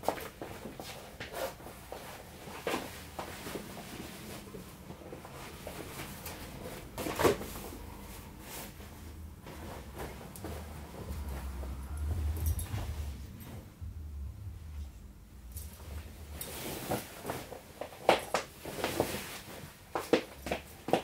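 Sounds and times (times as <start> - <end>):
garments rustling: 0.0 - 21.0.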